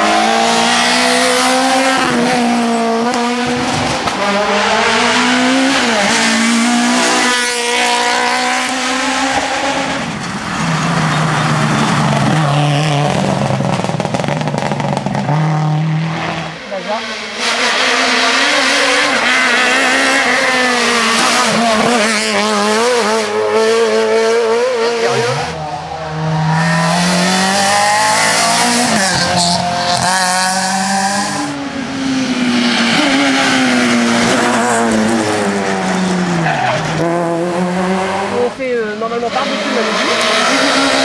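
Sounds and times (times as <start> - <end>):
rally car engines revving: 0.0 - 41.0.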